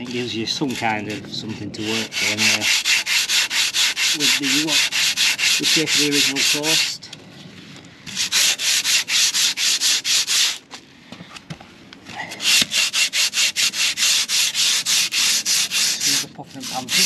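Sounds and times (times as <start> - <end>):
sandpaper rubbing on filler: 0.0 - 7.0, 8.1 - 10.6, 12.3 - 17.0.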